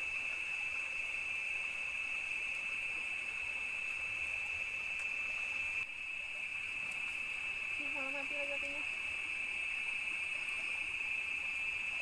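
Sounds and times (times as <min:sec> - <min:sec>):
night insect chorus: 0:00.0 - 0:12.0.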